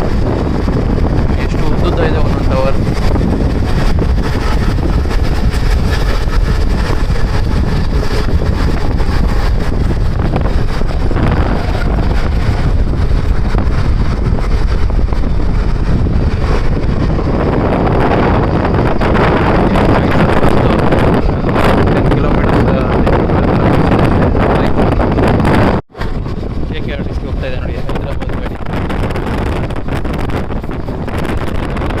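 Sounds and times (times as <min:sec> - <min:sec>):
train rumbling: 0:00.0 - 0:32.0
wind rushing over microphone: 0:00.0 - 0:32.0.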